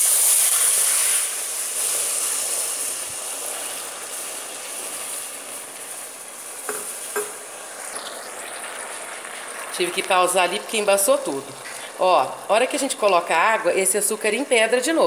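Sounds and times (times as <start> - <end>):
caramel hissing with steam: 0.0 - 15.0.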